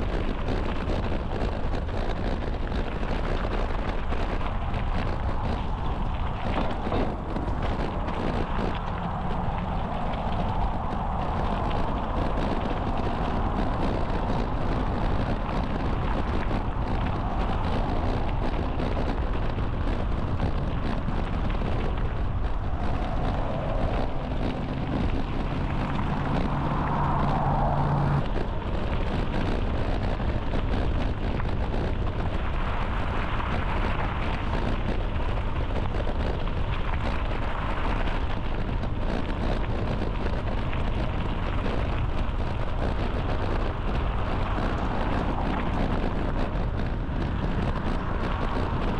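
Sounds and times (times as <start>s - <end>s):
bicycle rolling on trail: 0.0s - 48.9s
heavy low rumble: 0.0s - 48.9s
wind buffeting microphone: 0.0s - 48.9s.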